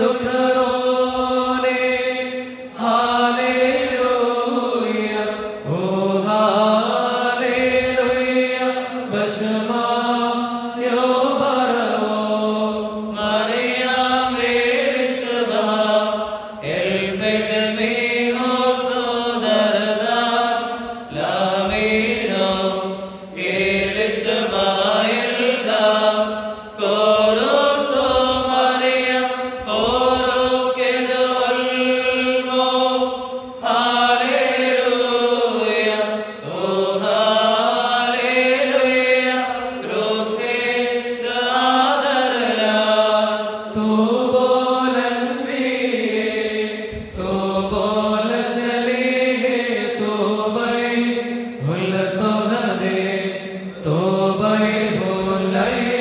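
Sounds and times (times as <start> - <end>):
voices chanting liturgy: 0.0 - 56.0.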